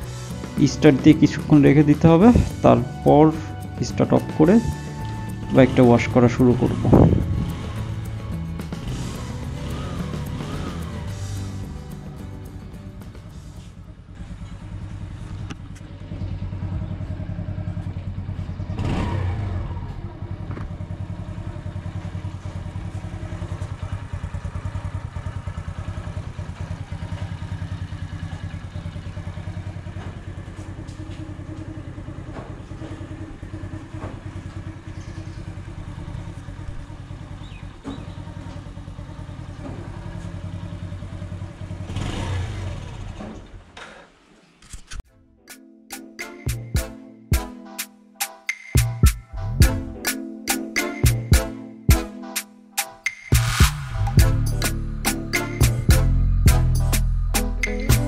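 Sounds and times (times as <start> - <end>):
motorcycle engine idling and revving: 0.0 - 44.3, 53.1 - 58.0.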